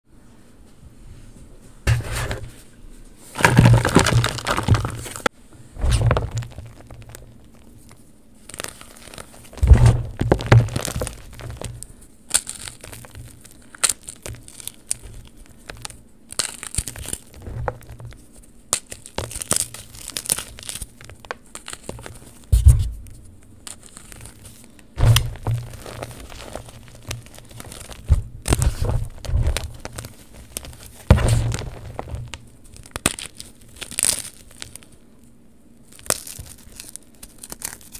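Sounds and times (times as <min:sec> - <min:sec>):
chalk chunks crunching: 0:03.3 - 0:35.0, 0:35.8 - 0:37.9
foil bag crinkling: 0:03.3 - 0:35.0, 0:35.8 - 0:37.9.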